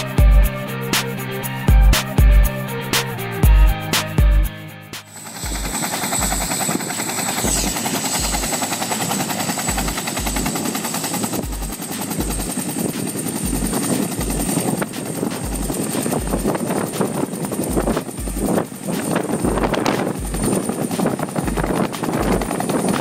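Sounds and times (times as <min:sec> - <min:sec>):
helicopter rotor beat: 0:00.0 - 0:23.0
turbine whine: 0:00.0 - 0:23.0.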